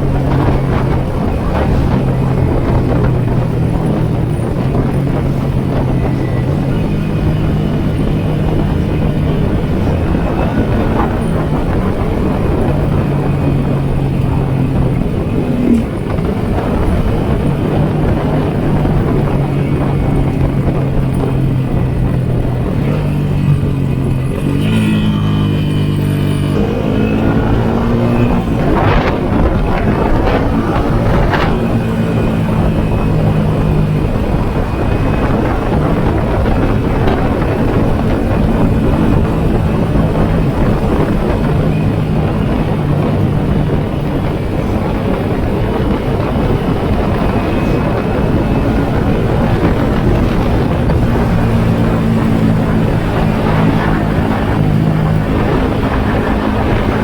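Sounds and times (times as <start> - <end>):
motorcycle engine cruising: 0.0 - 57.0
riding wind noise: 0.0 - 57.0.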